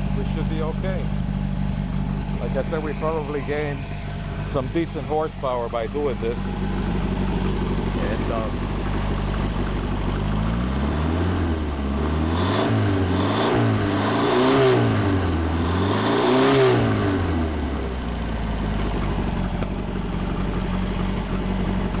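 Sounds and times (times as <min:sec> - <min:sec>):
engine revving and idling: 0:00.0 - 0:22.0.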